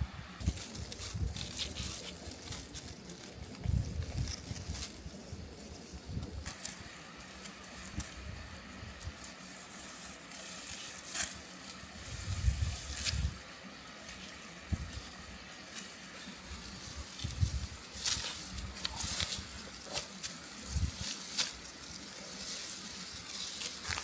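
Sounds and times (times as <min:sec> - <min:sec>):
rice plants rustling: 0:00.4 - 0:24.0.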